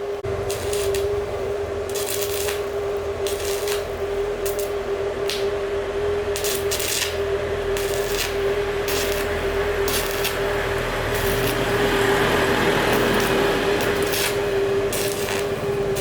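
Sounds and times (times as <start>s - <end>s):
machine motor humming and whirring: 0.0s - 16.0s.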